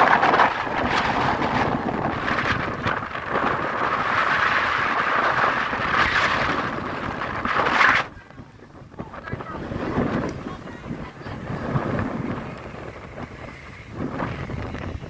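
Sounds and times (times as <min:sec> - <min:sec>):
water rushing around a boat: 0:00.0 - 0:15.0
wind rushing: 0:00.0 - 0:15.0.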